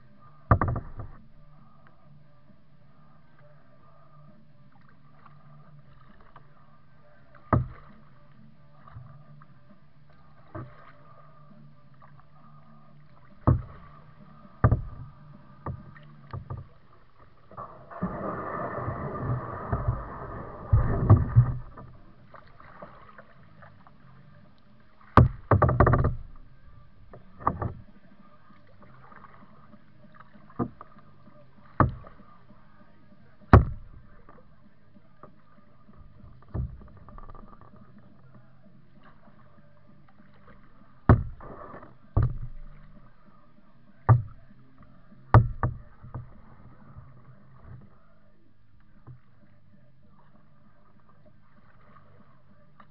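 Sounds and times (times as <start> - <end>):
kayak paddle splashes: 0.0 - 52.9.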